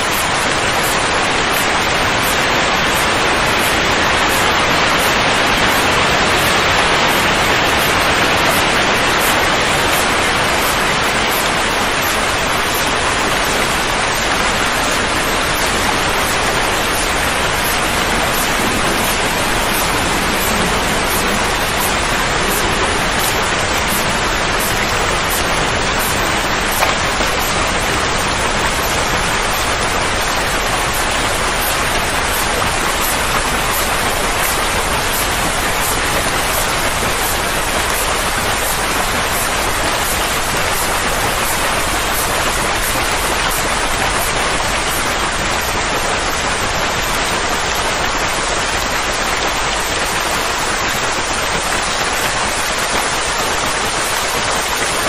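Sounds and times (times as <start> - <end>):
steady rushing noise: 0.0 - 55.0.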